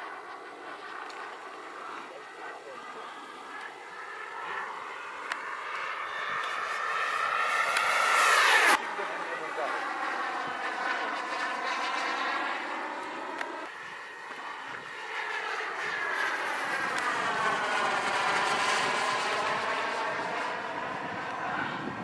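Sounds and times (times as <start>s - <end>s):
model jet turbine whining: 0.0s - 22.0s.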